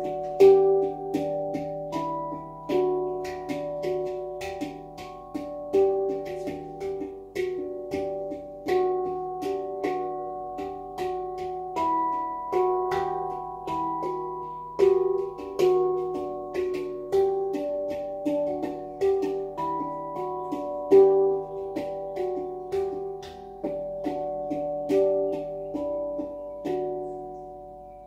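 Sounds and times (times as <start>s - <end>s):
handpan notes: 0.0s - 28.0s.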